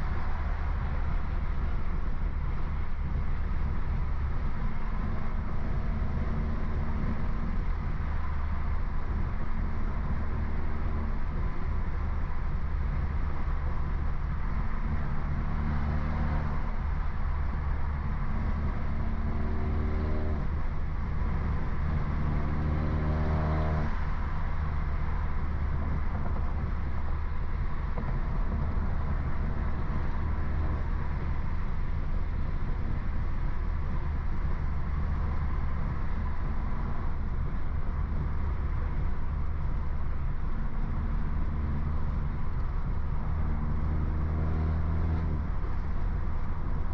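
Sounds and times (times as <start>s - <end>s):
car engine droning while driving: 0.0s - 46.9s.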